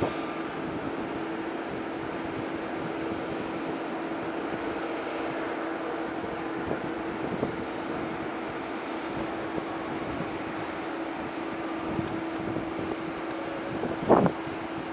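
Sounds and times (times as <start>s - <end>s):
jet engines idling: 0.0s - 14.9s.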